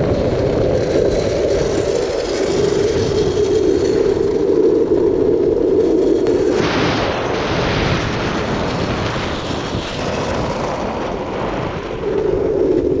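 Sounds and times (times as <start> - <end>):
wheels rumbling on rough asphalt: 0.0 - 13.0
wind rushing over microphone: 0.0 - 13.0.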